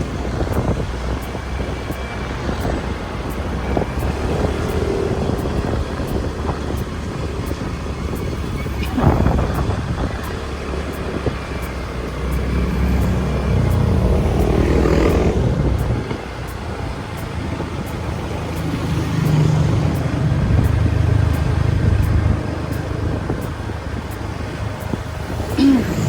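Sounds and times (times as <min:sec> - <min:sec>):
road and wind noise: 0:00.0 - 0:26.0
motorbike engine running: 0:02.4 - 0:26.0.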